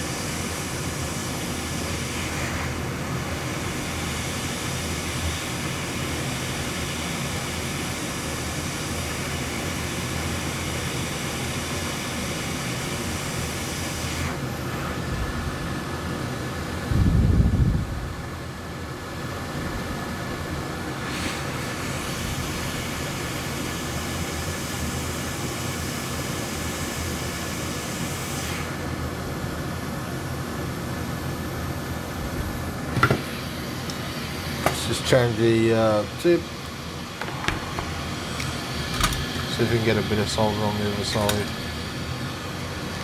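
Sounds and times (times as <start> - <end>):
blower fan whooshing air: 0.0 - 43.0.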